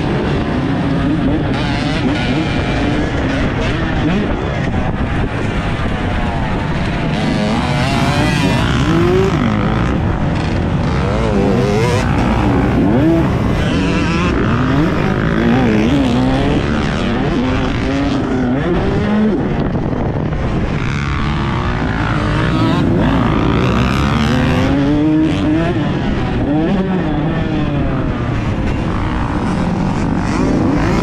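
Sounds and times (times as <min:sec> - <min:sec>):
dirt bike engine revving: 0:00.0 - 0:31.0
wind rush on microphone: 0:00.0 - 0:31.0.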